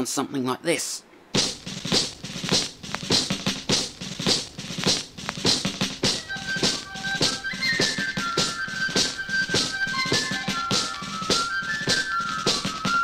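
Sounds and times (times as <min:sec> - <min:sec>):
tinny music with drum beat: 0:01.3 - 0:13.0.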